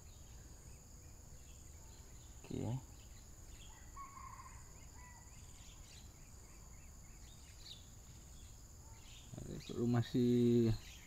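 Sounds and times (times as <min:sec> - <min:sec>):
bird chirping: 0:00.0 - 0:11.0
high insect drone: 0:00.0 - 0:11.0.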